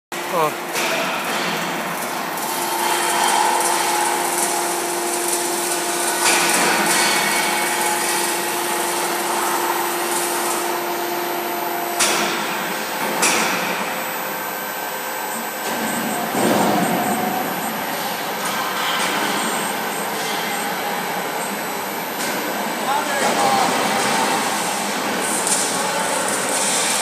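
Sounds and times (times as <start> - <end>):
industrial machinery running: 0.1 - 27.0.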